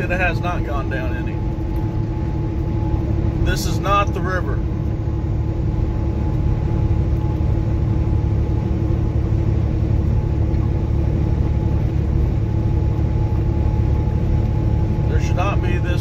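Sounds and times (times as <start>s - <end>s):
constant hum: 0.0s - 16.0s
truck engine droning: 0.0s - 16.0s.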